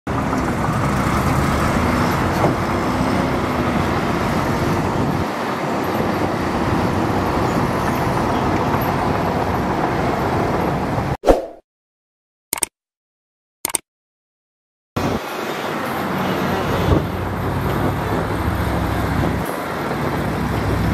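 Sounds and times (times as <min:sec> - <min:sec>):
heavy diesel engines under load: 0:00.1 - 0:11.2, 0:15.0 - 0:20.9.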